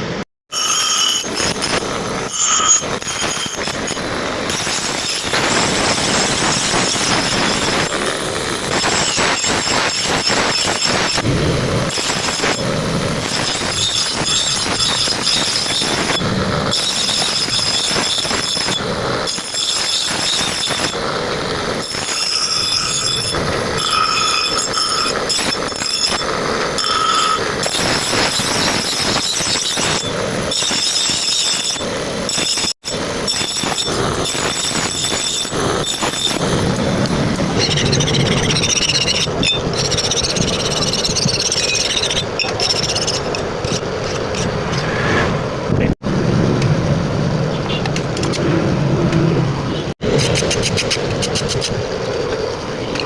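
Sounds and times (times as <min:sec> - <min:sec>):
steel grinding squeal: 0:00.5 - 0:45.7.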